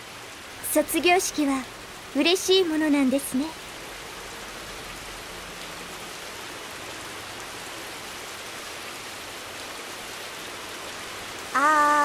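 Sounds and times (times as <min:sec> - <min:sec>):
steady rainfall: 0:00.0 - 0:12.0.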